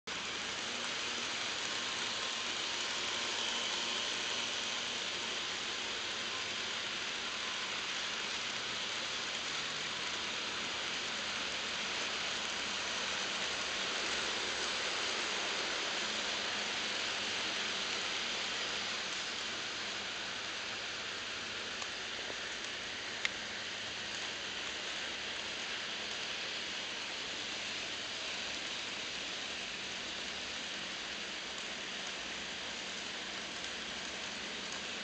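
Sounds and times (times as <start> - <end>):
model train wheels rolling on rails: 0.1 - 35.0.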